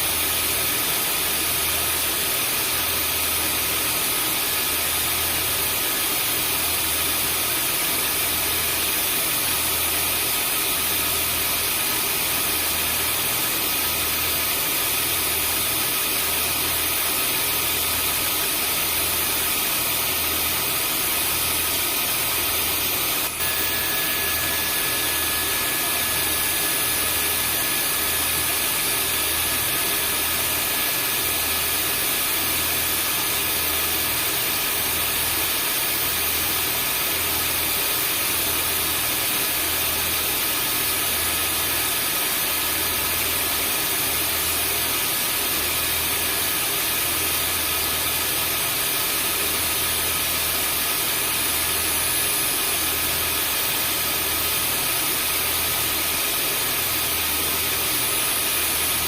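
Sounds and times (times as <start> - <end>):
vacuum cleaner motor running: 0.0 - 59.0.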